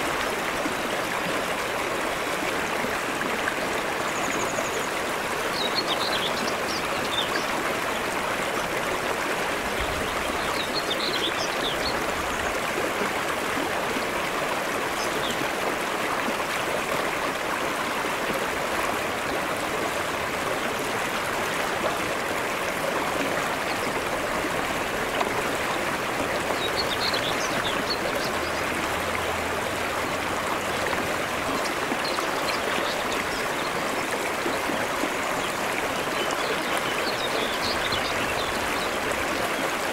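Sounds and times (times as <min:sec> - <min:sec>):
stream flowing over rock: 0:00.0 - 0:39.9.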